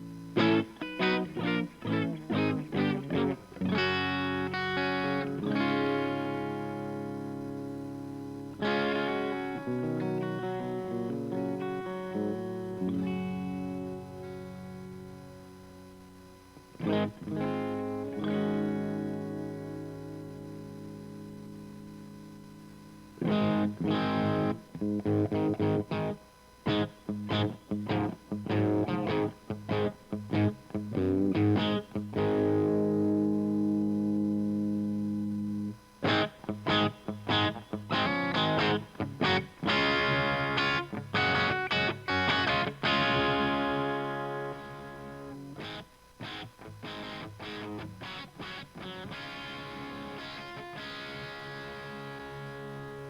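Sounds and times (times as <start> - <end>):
distorted electric guitar: 0.0 - 53.0.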